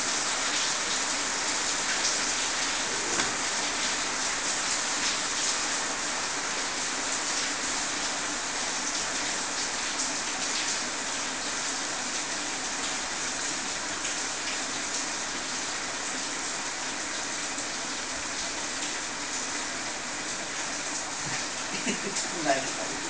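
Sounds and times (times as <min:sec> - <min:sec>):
steady rain-like hiss: 0:00.0 - 0:23.0.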